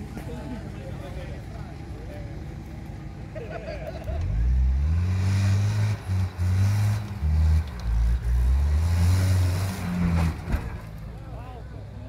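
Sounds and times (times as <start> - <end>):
off-road vehicle engine revving: 0.0 - 11.3.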